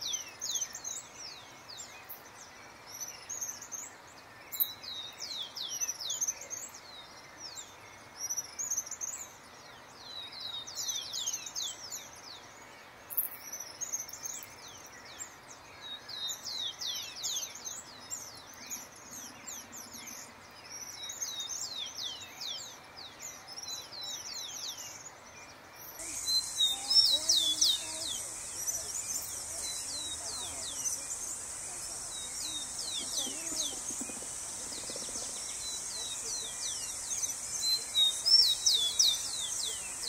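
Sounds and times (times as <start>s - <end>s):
faint steady hiss: 0.0s - 40.0s
wild birds chirping: 0.0s - 40.0s.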